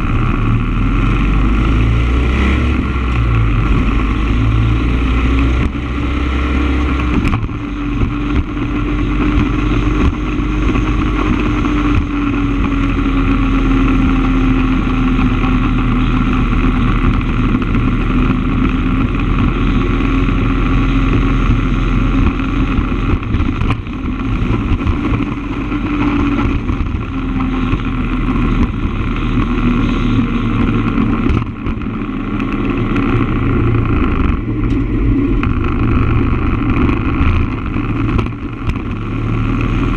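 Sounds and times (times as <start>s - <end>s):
motorcycle engine cruising: 0.0s - 39.9s
wind rumbling on microphone: 0.0s - 39.9s.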